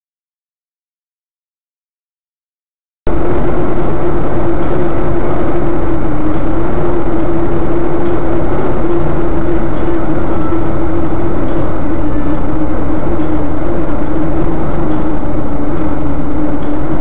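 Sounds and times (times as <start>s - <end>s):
car engine and road noise: 3.1s - 17.0s.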